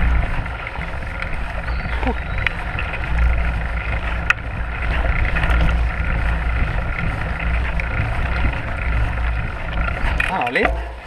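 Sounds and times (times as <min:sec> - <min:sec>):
bike tyres rolling on dirt: 0:00.0 - 0:11.0
wind buffeting microphone: 0:00.0 - 0:11.0.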